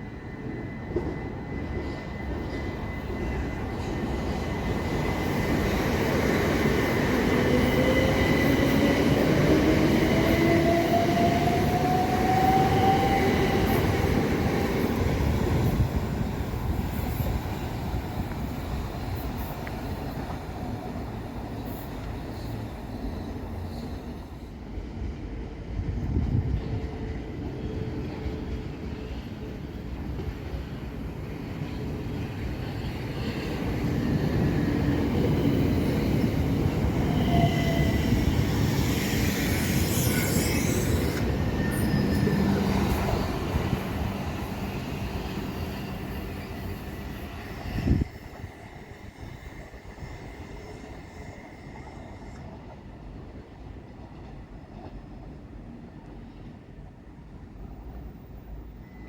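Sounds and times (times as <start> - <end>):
train wheel squeal: 0.0 - 24.7, 26.1 - 55.3, 57.6 - 59.0
passenger train rumbling: 0.0 - 59.0.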